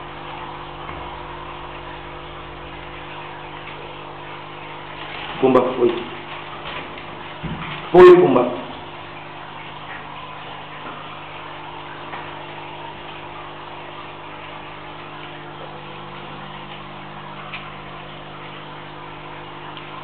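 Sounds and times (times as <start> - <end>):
room hum and hiss: 0.0 - 20.0.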